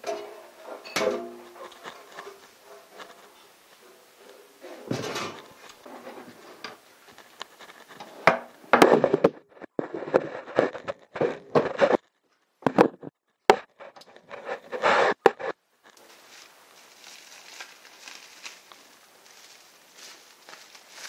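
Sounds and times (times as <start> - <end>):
rubbing and scraping on wood: 0.0 - 12.1, 12.7 - 21.0.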